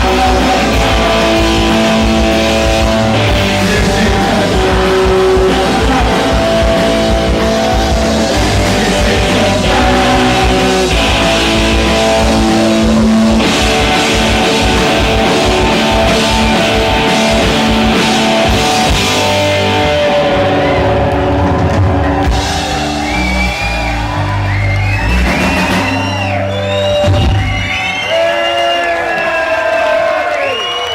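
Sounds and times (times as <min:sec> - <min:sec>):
punk rock band playing live: 0:00.0 - 0:28.2
crowd whooping: 0:00.0 - 0:30.9.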